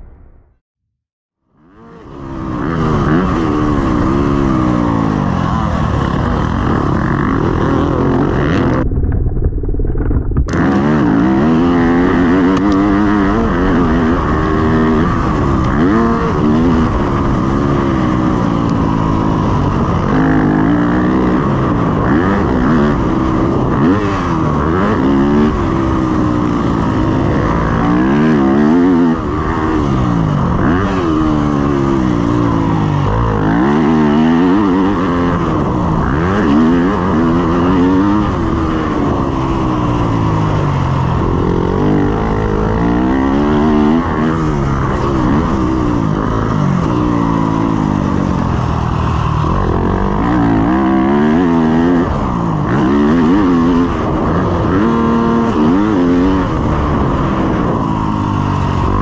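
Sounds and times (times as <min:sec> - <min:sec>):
motocross engine revving: 0:01.6 - 0:59.0.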